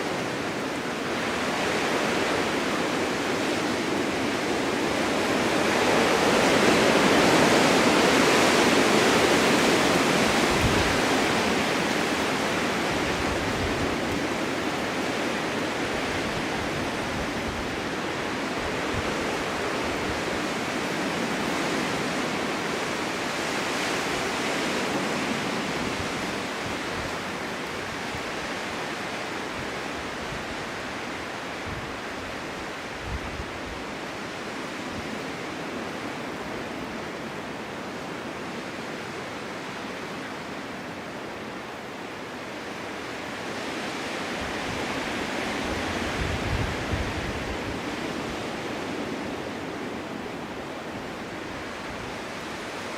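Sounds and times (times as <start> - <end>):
snowstorm wind blowing: 0.0 - 52.9.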